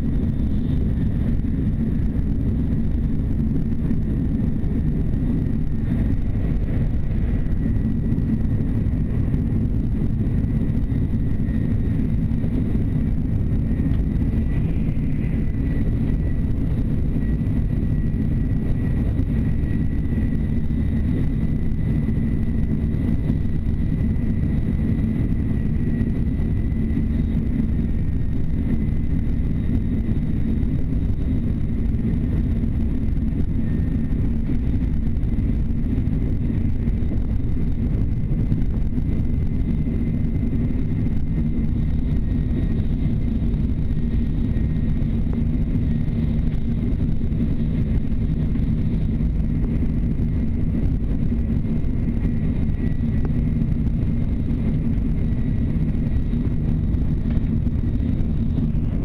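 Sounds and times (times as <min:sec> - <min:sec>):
faint high whine: 0:00.0 - 0:59.0
train car low rumble: 0:00.0 - 0:59.0.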